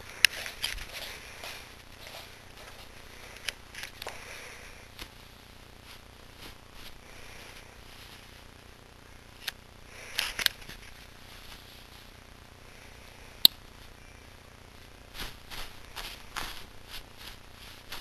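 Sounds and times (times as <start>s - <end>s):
bedding rustling: 0.0s - 8.9s, 9.9s - 12.3s, 14.8s - 18.0s
steady low hum: 0.0s - 18.0s.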